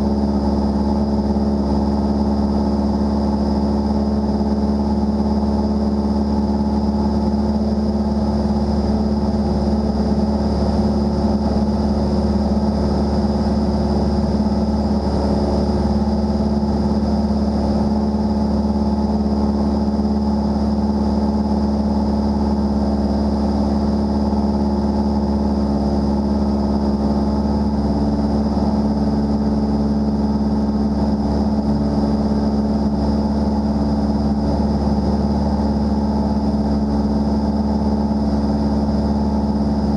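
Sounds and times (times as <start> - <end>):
light airplane engine humming: 0.0 - 39.9.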